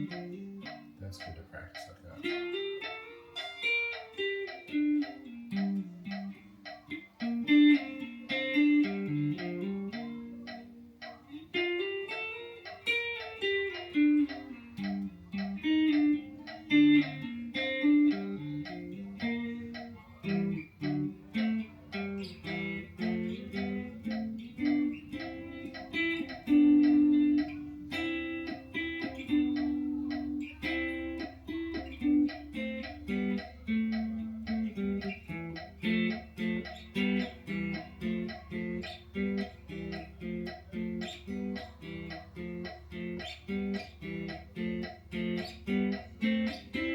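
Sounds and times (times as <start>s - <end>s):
guitar melody: 0.0s - 46.9s.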